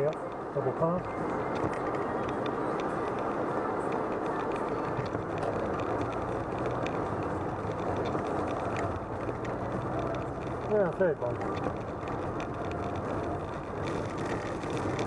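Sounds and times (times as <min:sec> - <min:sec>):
car engine hum: 0:00.0 - 0:15.0
raindrops ticking on windscreen: 0:00.0 - 0:15.0
tyre and road noise: 0:00.0 - 0:15.0.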